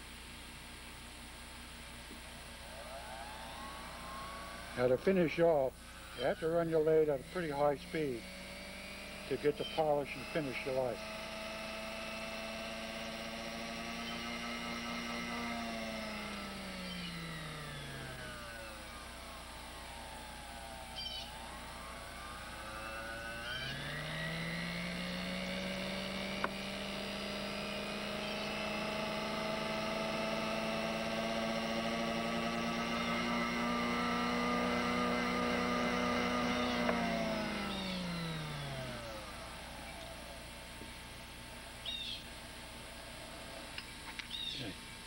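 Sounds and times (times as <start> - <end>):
small lathe motor running: 2.3 - 44.5.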